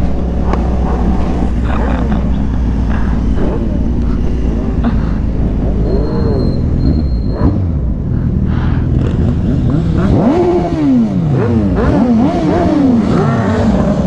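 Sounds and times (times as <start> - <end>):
low rumble of riding noise: 0.0 - 14.0
motorcycle engines revving: 0.0 - 14.0.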